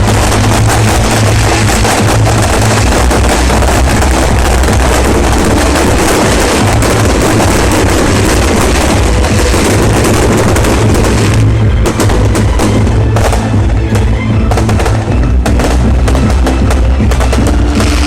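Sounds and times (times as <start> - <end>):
fireworks crackling and banging: 0.0 - 18.0
loud music with drums: 0.0 - 18.0.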